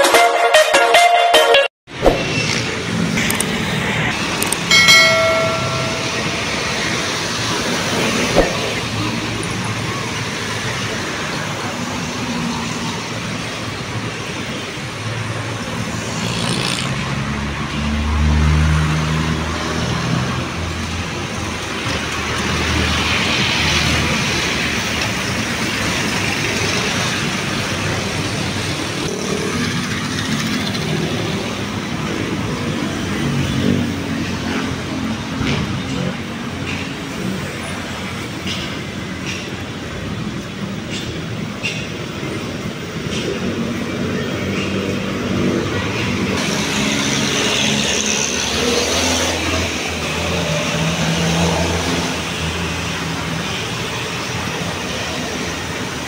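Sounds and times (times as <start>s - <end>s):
cars and motorcycles passing: 1.9s - 56.0s.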